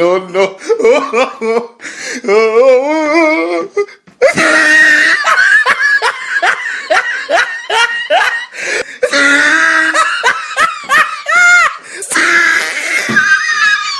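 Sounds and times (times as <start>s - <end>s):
person laughing hard: 0.3s - 13.9s.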